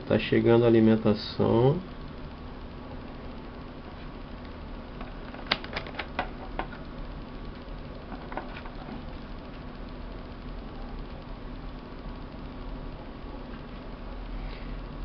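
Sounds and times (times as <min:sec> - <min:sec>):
steady faint hum: 0:00.0 - 0:15.0.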